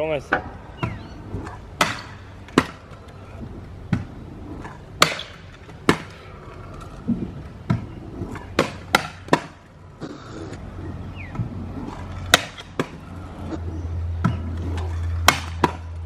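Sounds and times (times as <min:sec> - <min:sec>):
scooters clacking on concrete: 0:00.2 - 0:16.0.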